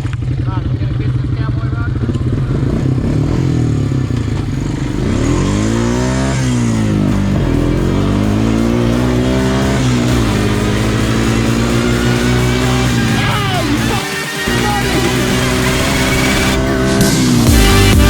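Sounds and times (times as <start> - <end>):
quad bike engine revving: 0.0 - 18.0.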